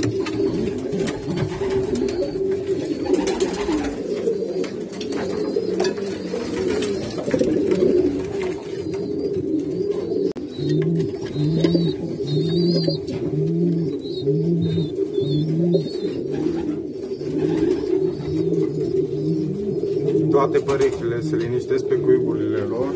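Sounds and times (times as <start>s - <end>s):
deep pigeon coo: 0.0s - 22.9s
pigeons cooing: 0.0s - 22.9s.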